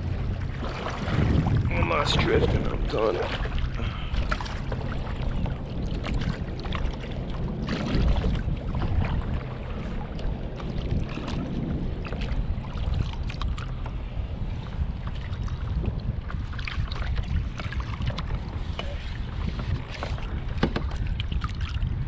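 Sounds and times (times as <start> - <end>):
water lapping: 0.0 - 22.0
wind rumbling on microphone: 0.0 - 22.0.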